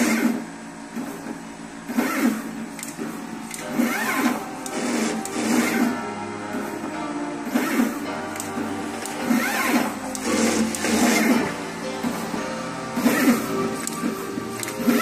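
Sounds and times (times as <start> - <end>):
machine motors whining: 0.0 - 15.0.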